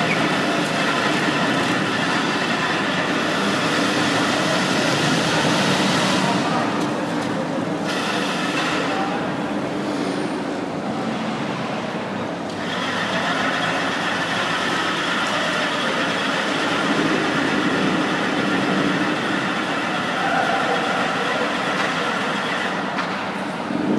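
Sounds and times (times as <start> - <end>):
busy indoor hall din: 0.0 - 23.9.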